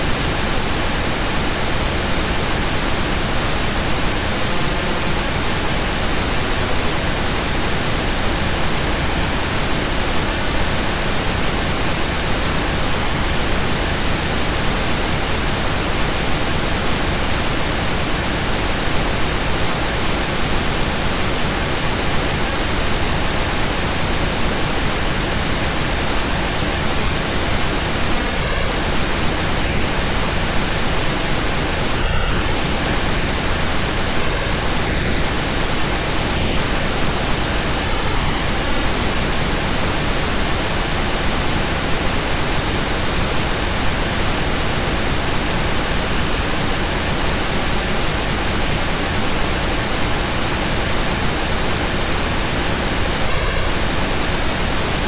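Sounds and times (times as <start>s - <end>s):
steady pink noise hiss: 0.0s - 55.0s.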